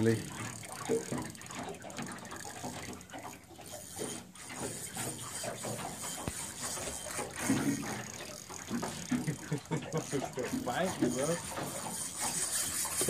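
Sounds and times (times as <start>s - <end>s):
fishing reel clicking and ratcheting: 0.0s - 13.0s.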